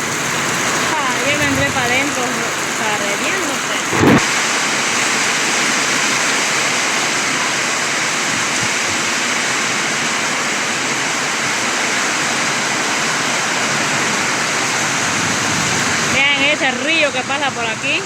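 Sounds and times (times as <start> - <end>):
pouring rain: 0.0 - 18.0
running water: 0.0 - 18.0.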